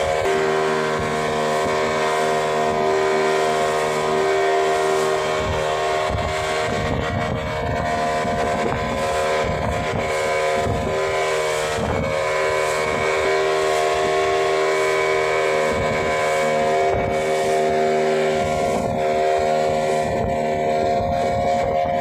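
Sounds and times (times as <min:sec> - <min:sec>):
boat engine droning: 0:00.0 - 0:22.0
water rushing along hull: 0:00.0 - 0:22.0.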